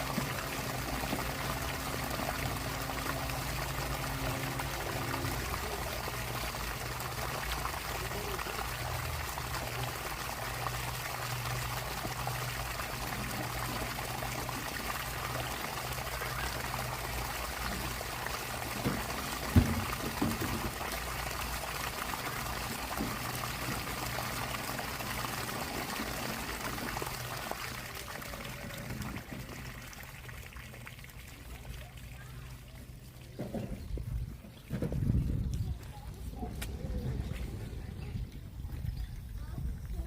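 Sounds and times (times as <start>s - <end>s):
water pouring: 0.0s - 34.1s
low steady hum: 0.0s - 40.0s.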